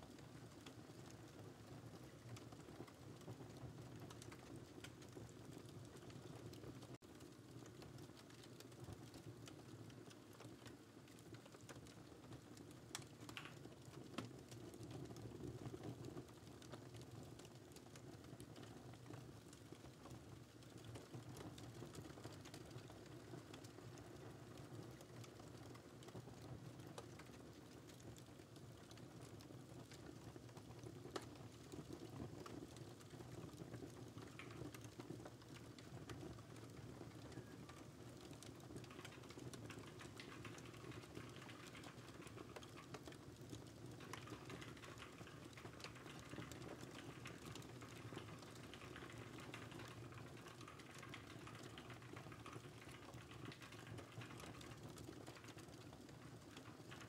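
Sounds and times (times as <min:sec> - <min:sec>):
fireplace crackling: 0:00.1 - 0:57.0.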